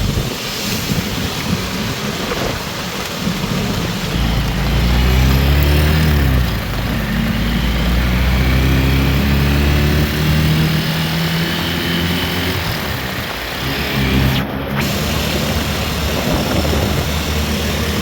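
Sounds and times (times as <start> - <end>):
heavy rain: 0.0 - 18.0
vehicle engine running: 2.2 - 18.0.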